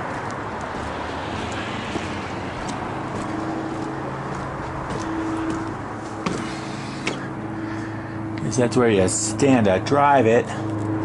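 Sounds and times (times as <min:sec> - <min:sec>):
low engine hum: 0:00.0 - 0:11.0
road traffic rushing: 0:00.0 - 0:11.0.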